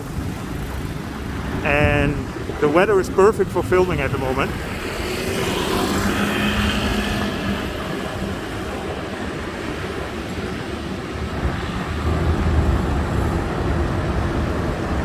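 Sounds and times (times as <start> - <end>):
passing vehicles engine and tyres: 0.0 - 15.0
deep engine drone: 1.3 - 15.0.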